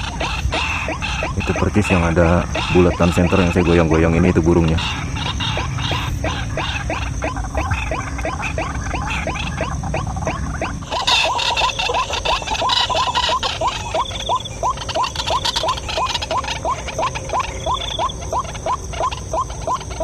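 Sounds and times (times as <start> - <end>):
waterhen calls: 0.0 - 20.0.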